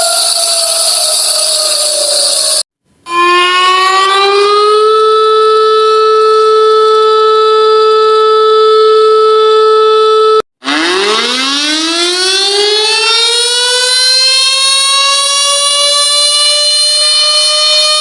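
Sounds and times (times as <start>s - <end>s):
civil defense siren winding up: 0.0s - 18.0s
loud steady siren tone: 0.0s - 18.0s.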